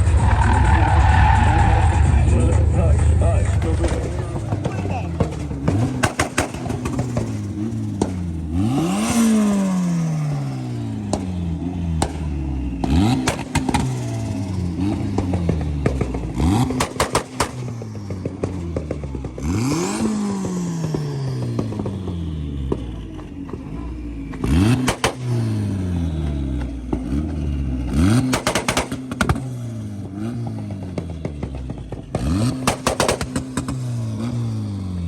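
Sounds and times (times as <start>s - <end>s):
sharp exhaust cracks: 0.0s - 34.9s
car engine revving: 0.0s - 35.0s.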